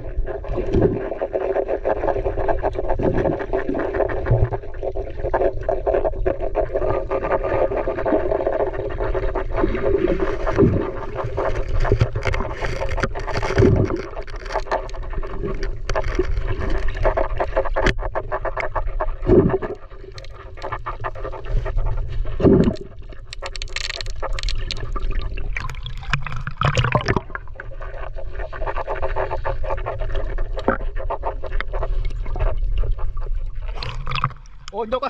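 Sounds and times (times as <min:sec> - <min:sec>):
water churning: 0:00.0 - 0:35.0
water sloshing underwater: 0:00.0 - 0:35.0.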